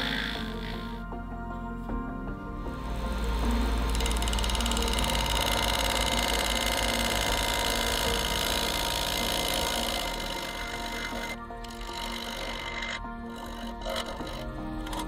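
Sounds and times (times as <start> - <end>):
gouge cutting spinning wood: 0.0 - 1.0, 2.8 - 15.0
wood lathe motor hum: 0.0 - 1.1, 2.6 - 15.0.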